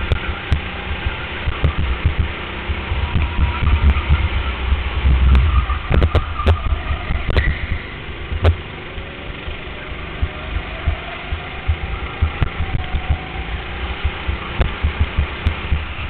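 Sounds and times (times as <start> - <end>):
low thumping from vibration: 0.0 - 9.6, 10.2 - 16.0
go-kart motor running: 0.0 - 16.0.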